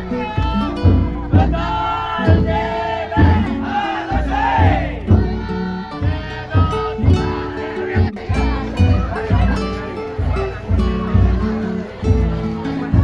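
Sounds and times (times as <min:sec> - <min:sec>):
crowd of men shouting: 0:00.0 - 0:13.0
music with low thumping beat: 0:00.0 - 0:13.0.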